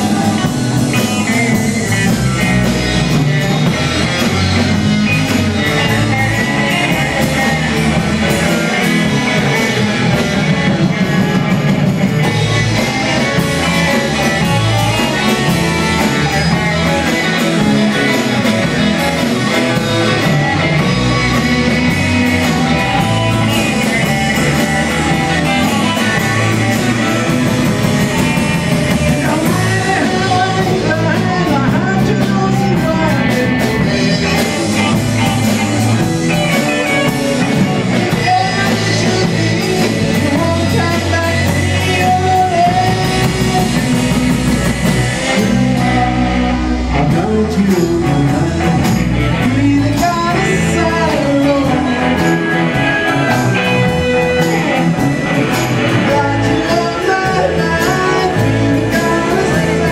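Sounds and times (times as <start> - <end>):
electric bass: 0.0 - 59.9
electric guitar: 0.0 - 59.9
keyboard: 0.0 - 59.9.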